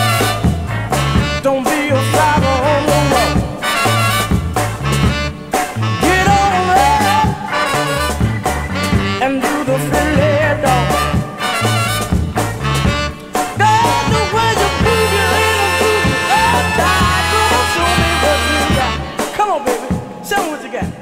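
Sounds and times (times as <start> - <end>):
upbeat funk soul music: 0.0 - 21.0.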